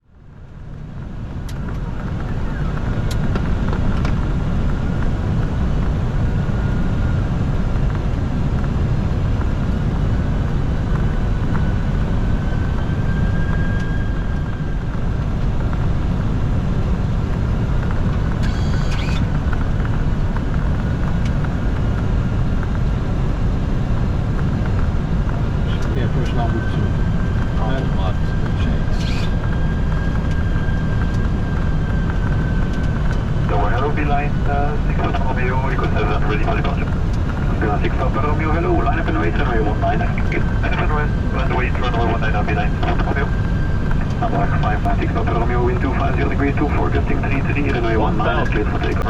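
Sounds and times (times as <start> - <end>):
faint whine: 0.0 - 49.0
low cockpit rumble: 0.0 - 49.0.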